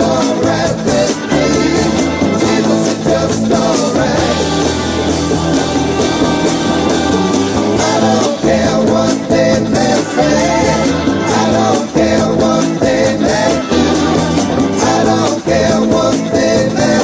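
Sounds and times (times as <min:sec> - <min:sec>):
rock song with singing: 0:00.0 - 0:17.0.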